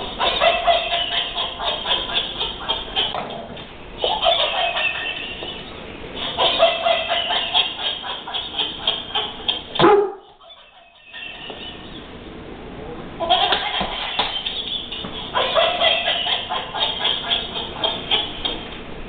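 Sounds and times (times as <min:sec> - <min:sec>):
toy giggling in rapid bursts: 0:00.0 - 0:03.2, 0:04.0 - 0:05.4, 0:06.2 - 0:11.5, 0:13.2 - 0:18.6.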